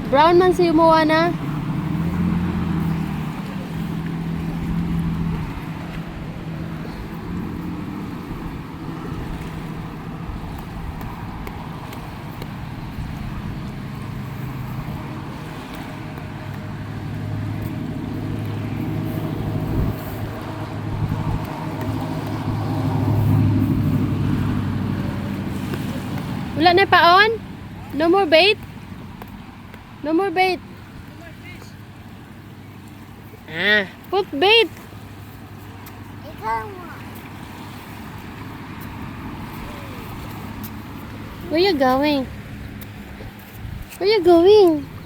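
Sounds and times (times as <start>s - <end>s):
low engine hum: 0.0s - 45.0s
outdoor background noise: 0.0s - 45.0s.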